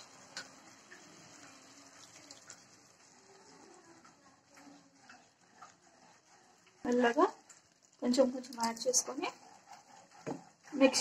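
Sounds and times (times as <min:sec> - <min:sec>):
sauce simmering in wok: 0:00.0 - 0:11.0.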